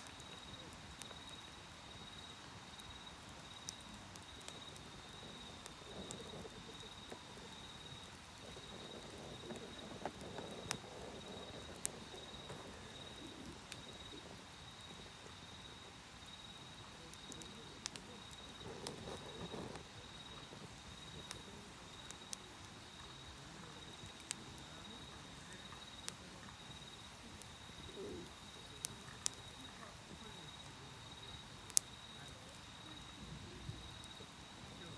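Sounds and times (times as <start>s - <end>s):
insects trilling: 0.0s - 34.9s
wood fire crackling: 0.0s - 34.9s.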